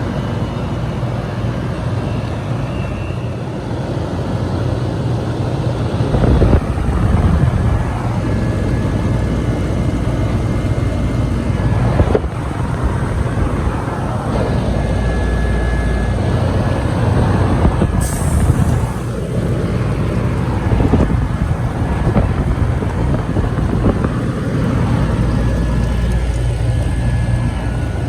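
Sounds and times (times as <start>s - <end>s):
air conditioner compressor hum: 0.0s - 28.0s
condenser fan rushing: 0.0s - 28.0s.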